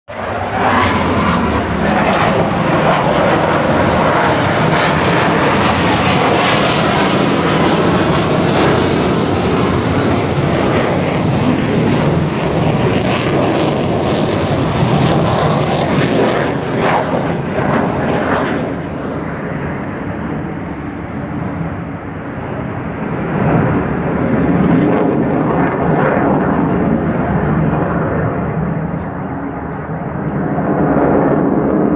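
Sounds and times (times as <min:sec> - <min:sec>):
jet fighter flying overhead: 0:00.1 - 0:31.9.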